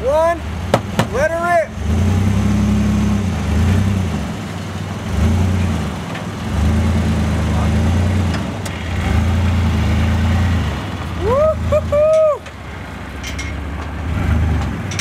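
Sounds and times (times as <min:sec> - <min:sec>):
truck engine labouring: 0:00.0 - 0:15.0.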